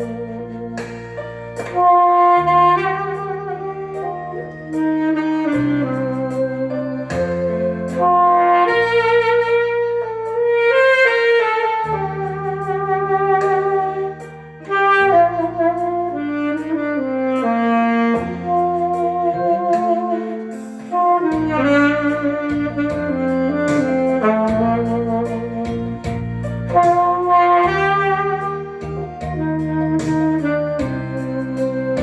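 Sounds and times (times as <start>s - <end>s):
backing track accompaniment: 0.0s - 32.0s
saxophone playing slow melody: 0.0s - 32.0s.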